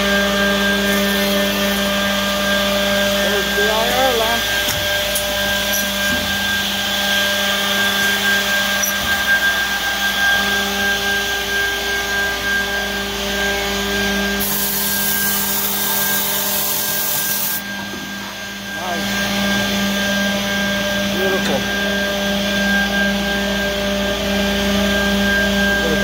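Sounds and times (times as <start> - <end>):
machine motor hum with whine: 0.0 - 26.0.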